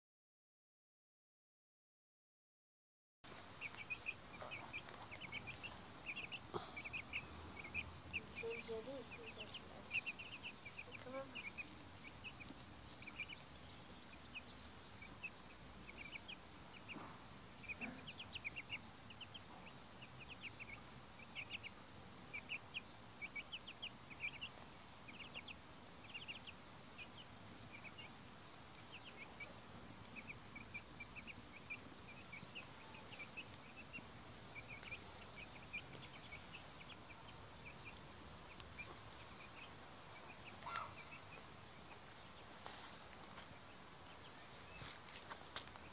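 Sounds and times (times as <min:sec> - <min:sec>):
chicks peeping: 0:03.3 - 0:45.9.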